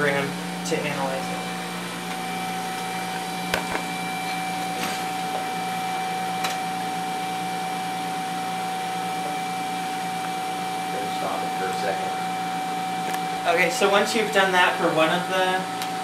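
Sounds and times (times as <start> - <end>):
constant whine: 0.0 - 16.0
vacuum pumps humming: 0.0 - 16.0.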